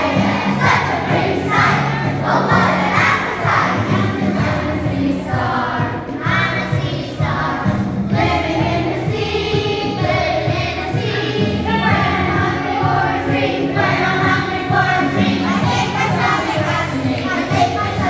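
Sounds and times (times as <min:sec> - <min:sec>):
children singing in chorus: 0:00.0 - 0:18.0
musical accompaniment with bass: 0:00.0 - 0:18.0.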